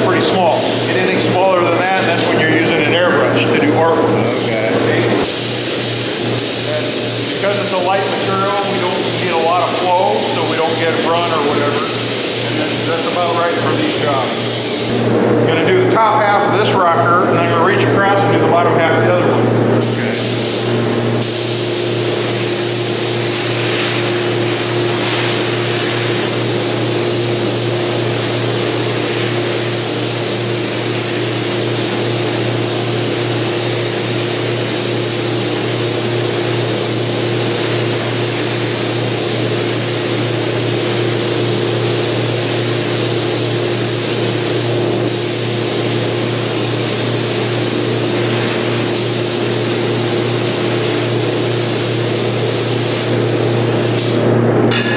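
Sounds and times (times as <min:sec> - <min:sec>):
paint spray gun hissing: 0:00.0 - 0:02.5, 0:05.1 - 0:15.1, 0:19.8 - 0:54.2.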